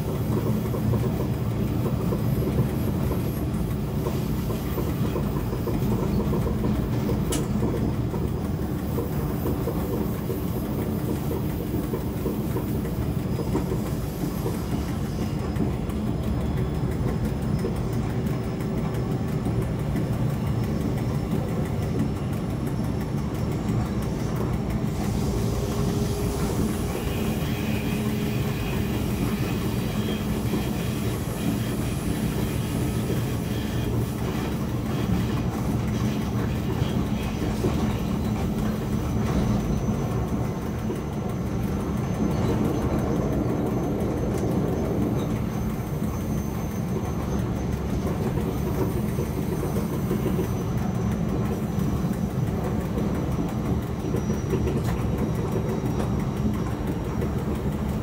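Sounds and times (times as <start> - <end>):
electric train running on track: 0.0 - 58.0.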